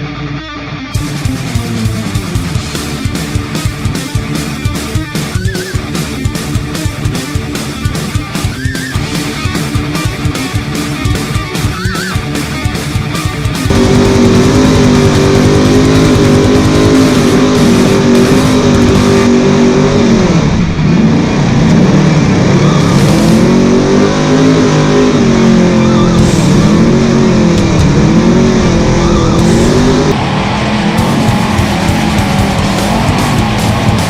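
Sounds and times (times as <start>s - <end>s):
truck engine revving: 1.0s - 34.0s.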